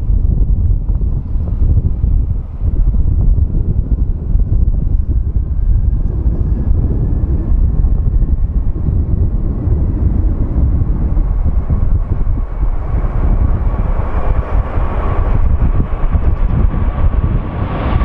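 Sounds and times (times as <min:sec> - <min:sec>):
jet engines deep rumble: 0:00.0 - 0:18.0
faint thin engine whine: 0:00.1 - 0:18.0.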